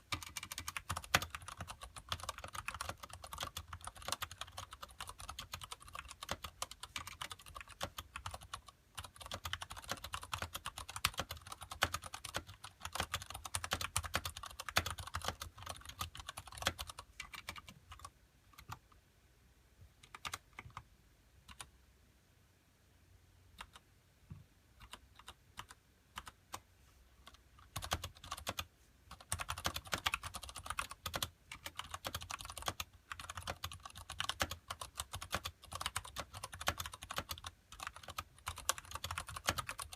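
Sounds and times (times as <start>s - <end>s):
mechanical keyboard typing: 0.0s - 18.9s, 20.0s - 20.9s, 21.5s - 21.7s, 23.6s - 23.8s, 24.8s - 26.6s, 27.2s - 39.9s.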